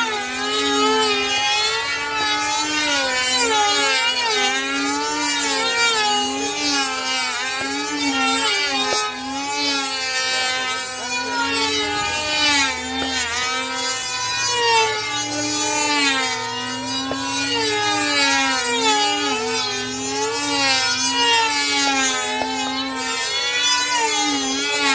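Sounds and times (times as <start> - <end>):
model airplane engines buzzing: 0.0 - 24.9.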